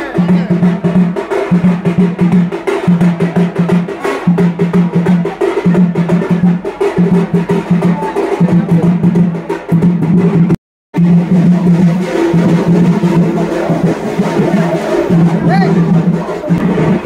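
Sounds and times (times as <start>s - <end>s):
low drum beaten rapidly: 0.0s - 17.0s
sharp percussion strokes: 0.0s - 17.0s.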